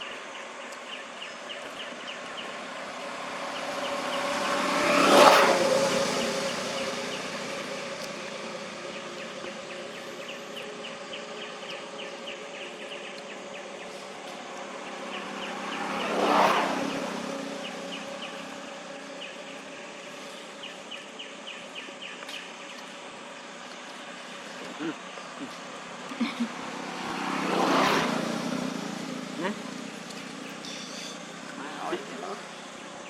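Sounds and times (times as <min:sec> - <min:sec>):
outdoor hum: 0:00.0 - 0:33.0
vehicle passing: 0:00.9 - 0:33.0.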